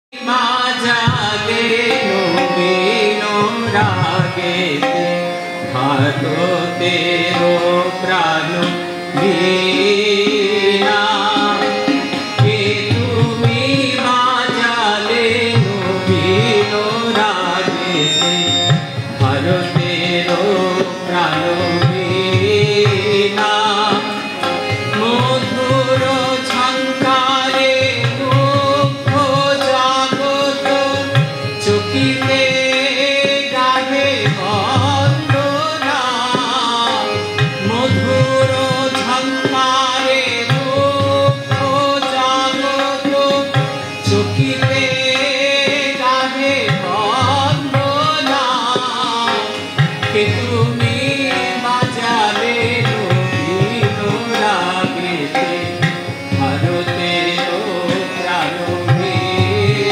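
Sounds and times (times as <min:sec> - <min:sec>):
harmonium playing: 0:00.1 - 0:59.9
man singing: 0:00.1 - 0:59.9.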